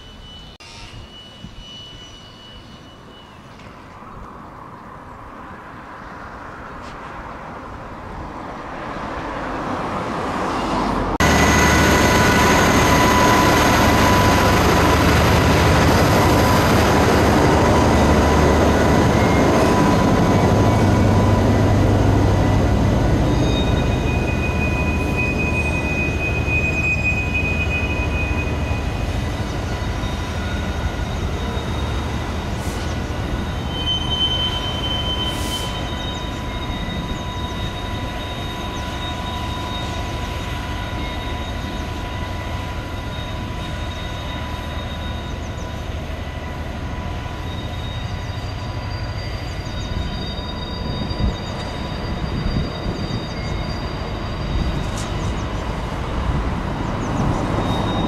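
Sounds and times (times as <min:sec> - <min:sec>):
high-pitched wheel squeal: 0:00.0 - 0:03.9, 0:10.4 - 0:55.6, 0:56.8 - 0:58.0
diesel locomotive engine droning: 0:00.0 - 0:58.0.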